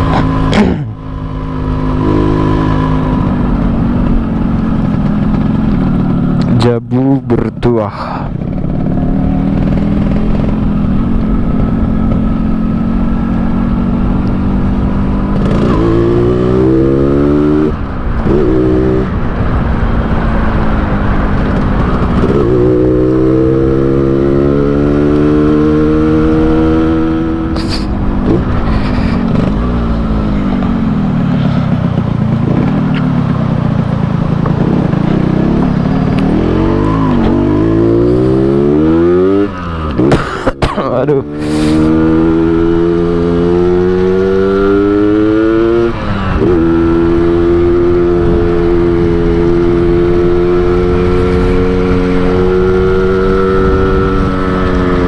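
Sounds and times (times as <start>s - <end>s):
two-stroke motorcycle engine revving: 0.0s - 7.1s, 8.3s - 55.0s.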